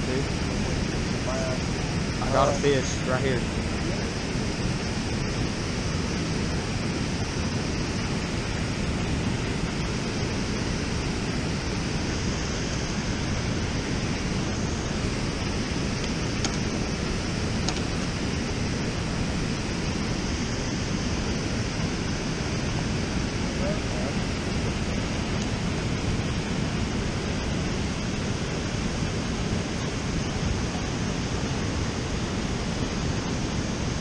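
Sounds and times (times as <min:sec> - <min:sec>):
water roaring over a dam: 0:00.0 - 0:34.0.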